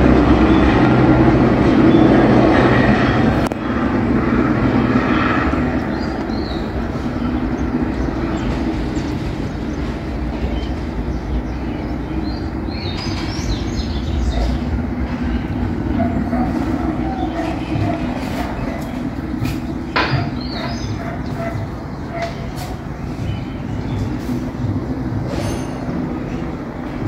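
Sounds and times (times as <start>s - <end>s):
distant helicopter drone: 0.0s - 27.0s.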